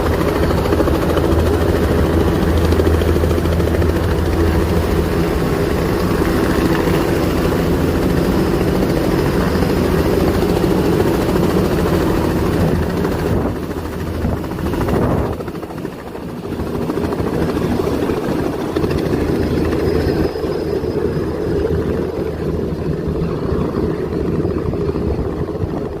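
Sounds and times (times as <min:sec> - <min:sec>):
helicopter rotor and engine drone: 0:00.0 - 0:26.0.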